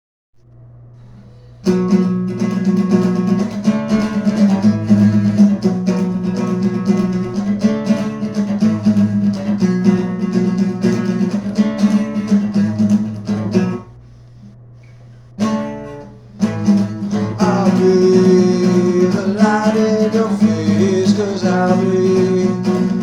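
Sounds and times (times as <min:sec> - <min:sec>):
faint low hum: 0:00.4 - 0:23.0
acoustic guitar music: 0:00.5 - 0:23.0.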